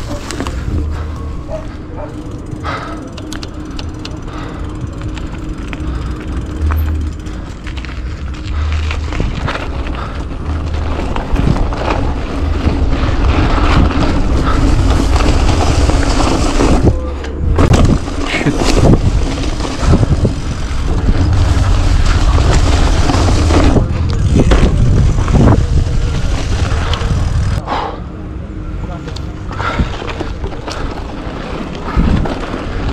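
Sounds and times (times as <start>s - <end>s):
bike rattling and knocking: 0.0s - 27.6s, 29.5s - 32.9s
wind rumbling on microphone: 0.0s - 27.6s, 29.6s - 32.9s.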